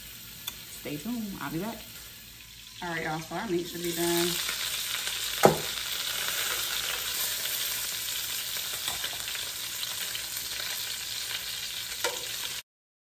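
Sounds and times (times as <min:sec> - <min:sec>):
chicken sizzling in oil: 0:00.0 - 0:12.6.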